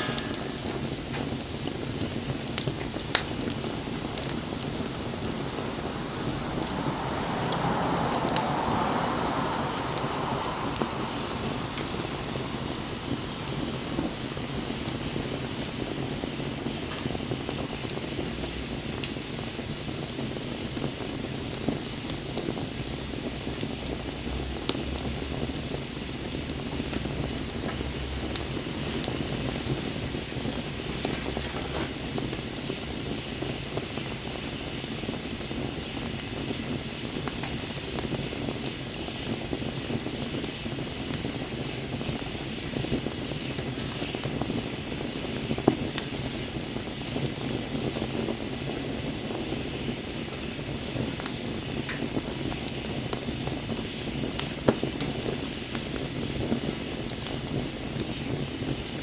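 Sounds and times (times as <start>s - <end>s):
fire pops: 0.0s - 24.9s, 25.6s - 59.0s
wood fire crackling: 0.0s - 59.0s.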